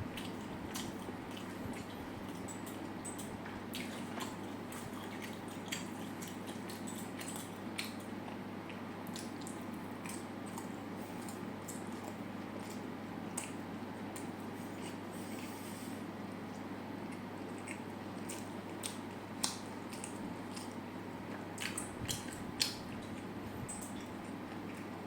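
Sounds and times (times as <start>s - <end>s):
chewing food: 0.0s - 25.0s
steady low hum: 0.0s - 25.0s.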